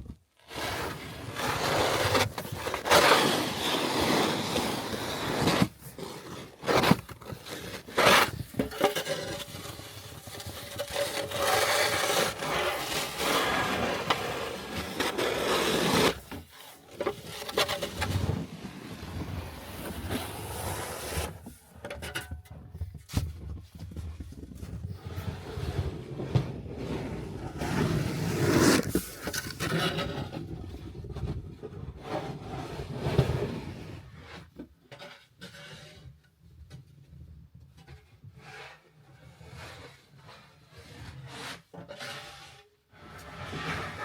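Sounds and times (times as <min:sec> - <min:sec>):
scraping and rubbing: 0:00.4 - 0:31.4, 0:39.4 - 0:44.0.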